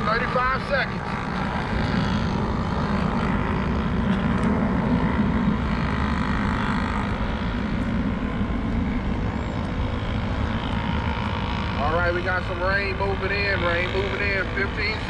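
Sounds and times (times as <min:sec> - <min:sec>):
model boat engines buzzing: 0:00.0 - 0:15.0.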